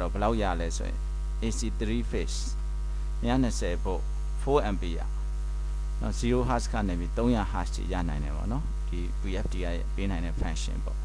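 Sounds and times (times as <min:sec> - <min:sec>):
man speaking: 0:00.0 - 0:02.6, 0:03.2 - 0:05.1, 0:06.0 - 0:11.0
electrical mains hum: 0:00.0 - 0:11.0.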